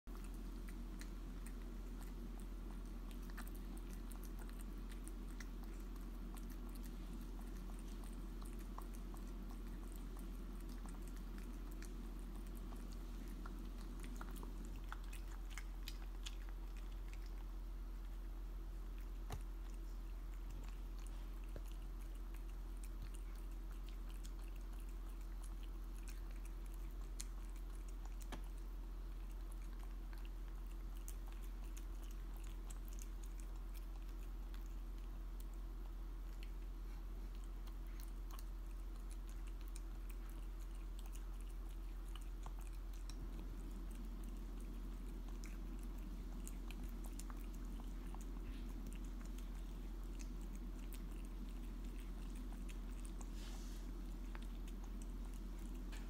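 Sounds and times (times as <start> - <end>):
cat chewing and licking: 0.0 - 56.0
steady low hum: 0.0 - 56.0.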